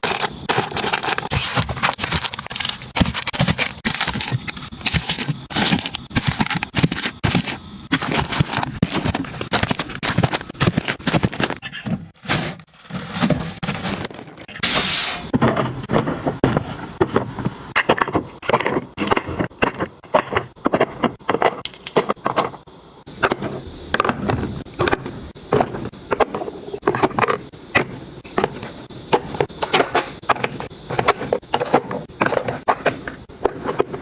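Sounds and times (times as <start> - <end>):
items being handled and set down: 0.0 - 22.6, 23.2 - 34.0.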